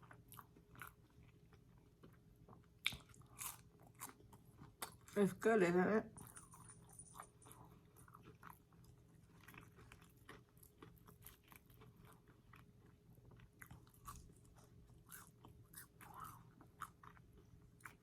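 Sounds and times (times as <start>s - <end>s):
person chewing food: 0.0s - 5.2s, 6.2s - 18.0s.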